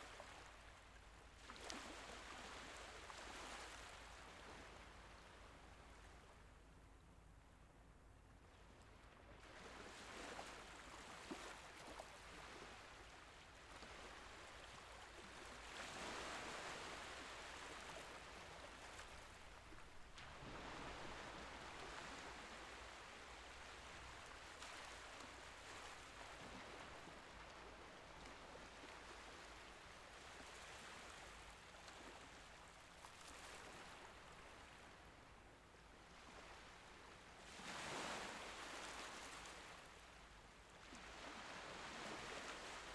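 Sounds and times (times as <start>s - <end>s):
gentle waves washing in: 0.0s - 6.4s, 9.3s - 42.9s.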